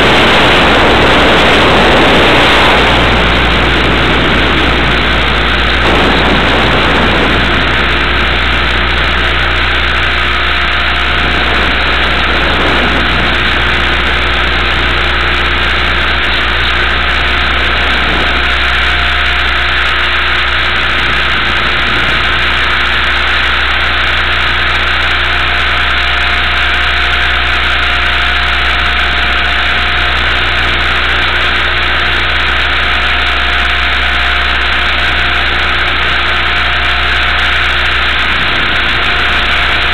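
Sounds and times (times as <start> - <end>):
rc helicopter motor and rotor drone: 0.0 - 39.9.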